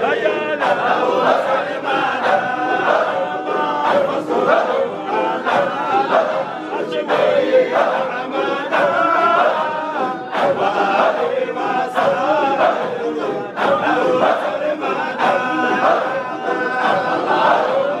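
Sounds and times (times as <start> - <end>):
crowd of men chanting: 0.0 - 18.0.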